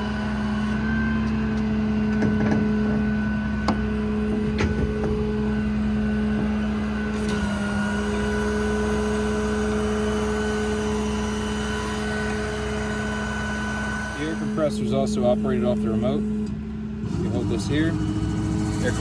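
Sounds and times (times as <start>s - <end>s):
diesel engine running: 0.0s - 19.0s
steady whine: 0.0s - 19.0s.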